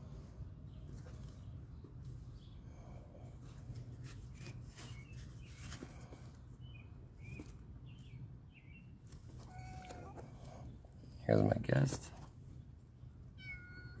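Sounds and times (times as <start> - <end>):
small birds chirping: 0.6 - 13.6.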